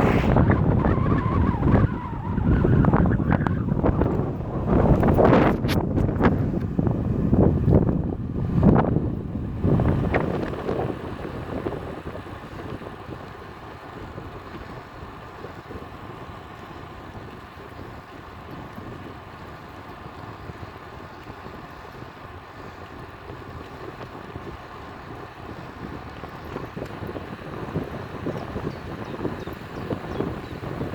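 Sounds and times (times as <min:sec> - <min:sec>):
wind rushing on microphone: 0:00.0 - 0:30.9.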